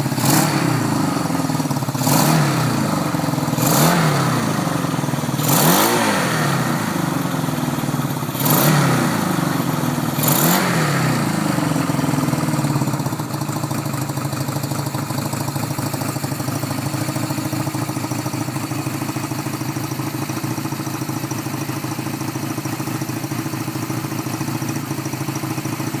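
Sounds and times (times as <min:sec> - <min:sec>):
motorcycle engine revving and idling: 0:00.0 - 0:26.0.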